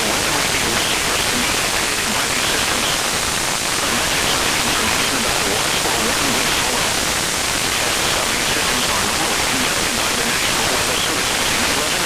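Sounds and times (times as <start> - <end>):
automated voice on radio: 0.0 - 12.0
radio static hiss: 0.0 - 12.0.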